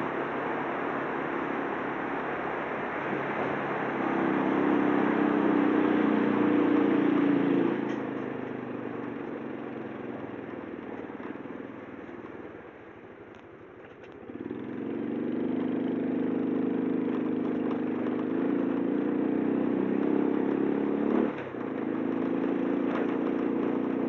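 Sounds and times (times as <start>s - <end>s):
small motorcycle engine: 0.0s - 12.5s, 13.6s - 24.0s.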